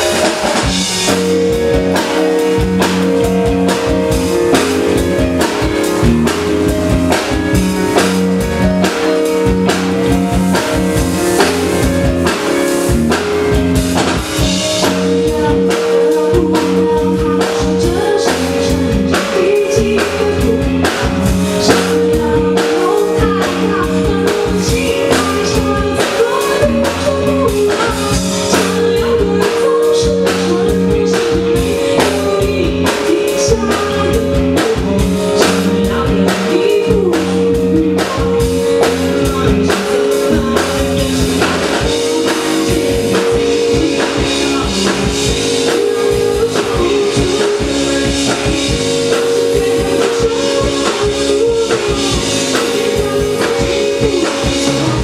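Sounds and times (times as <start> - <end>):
bass: 0.0 - 55.0
drum kit: 0.0 - 55.0
keyboard: 0.0 - 55.0
person singing: 0.0 - 55.0.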